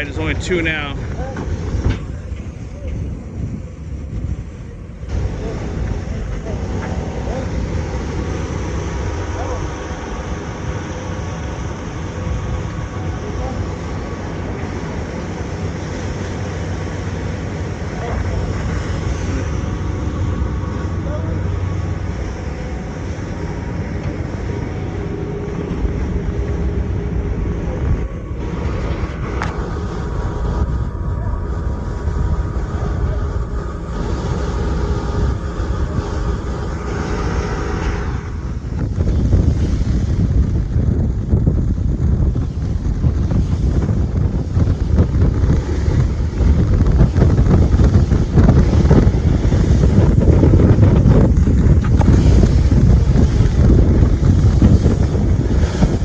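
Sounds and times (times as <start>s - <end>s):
boat engine rumbling: 0.0s - 56.0s
stormy sea noise: 0.0s - 56.0s
wind: 0.0s - 56.0s.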